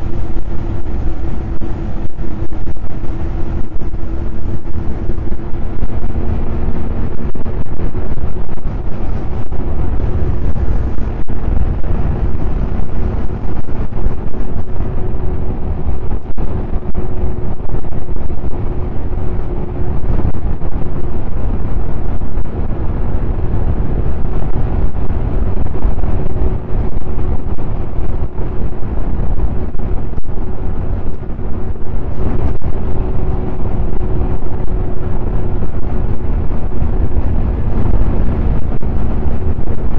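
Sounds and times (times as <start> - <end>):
snowmobile engine running: 0.0 - 39.9
wind buffeting microphone: 0.0 - 39.9.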